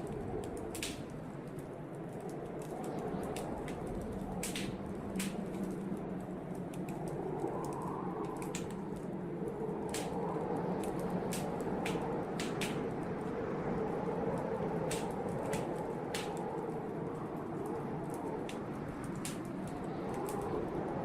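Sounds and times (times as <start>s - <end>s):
blizzard wind rushing: 0.0s - 21.0s
wood fire crackling: 0.0s - 21.0s.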